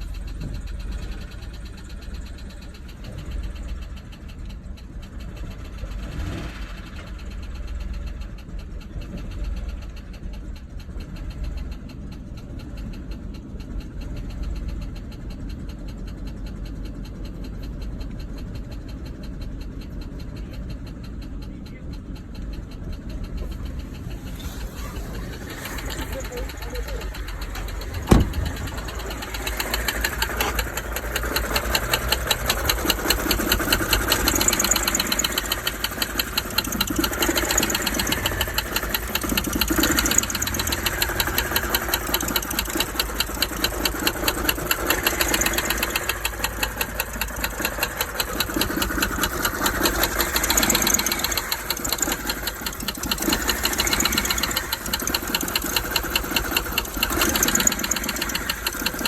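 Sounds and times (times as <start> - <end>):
car engine idling unevenly: 0.0 - 59.0.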